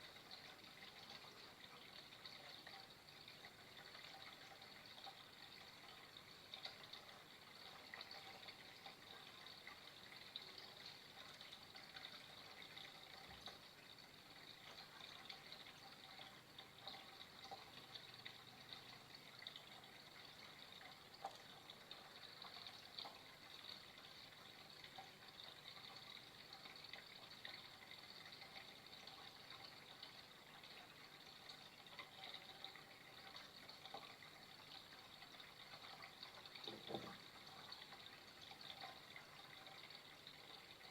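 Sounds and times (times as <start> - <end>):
water splashes and drips: 0.0 - 40.9
water trickling: 0.0 - 40.9.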